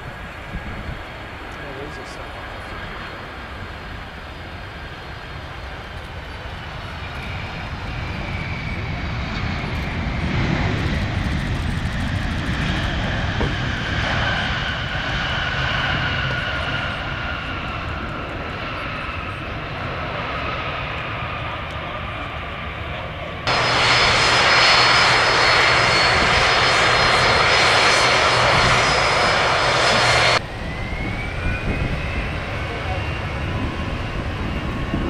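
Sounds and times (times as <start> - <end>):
jet engines rumbling and whining: 0.0 - 35.0.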